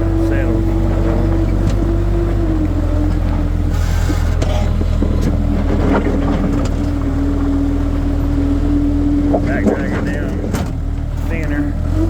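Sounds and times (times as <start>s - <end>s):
skid steer engine running: 0.0s - 12.0s.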